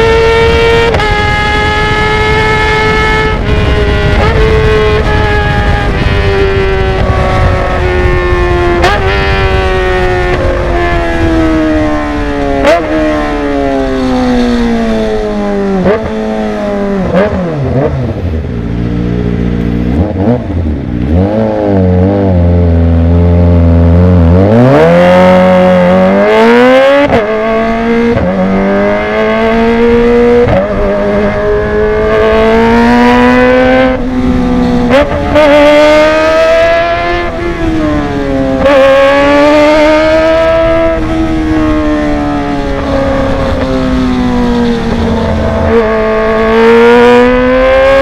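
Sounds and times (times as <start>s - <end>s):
loud motorcycle engine revving: 0.0s - 48.0s.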